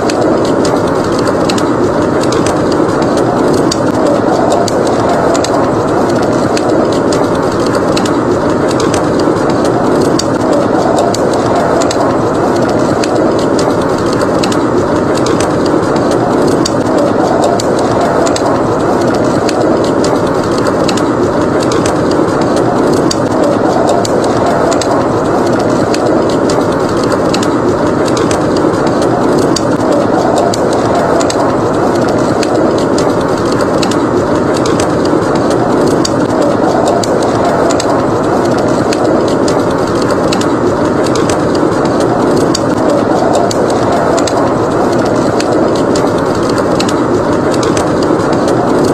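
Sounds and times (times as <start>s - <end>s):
blizzard wind rushing: 0.0s - 48.9s
wood fire crackling: 0.0s - 48.9s.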